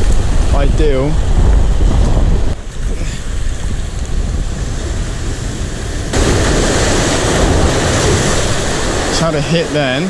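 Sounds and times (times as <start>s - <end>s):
wind on microphone: 0.0s - 9.2s
ocean surf washing on shore: 0.0s - 10.0s.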